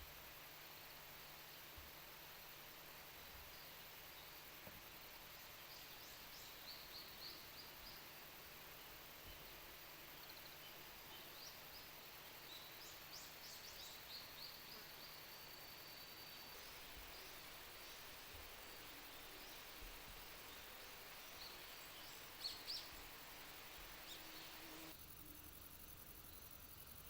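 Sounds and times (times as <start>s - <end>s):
soft steady hiss: 0.0s - 27.0s.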